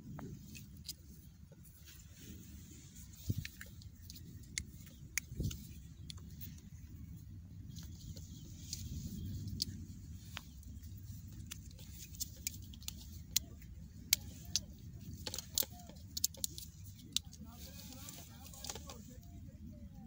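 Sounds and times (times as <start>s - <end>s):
light clicks and rustles: 0.0s - 19.8s
low steady rumble: 0.0s - 20.0s.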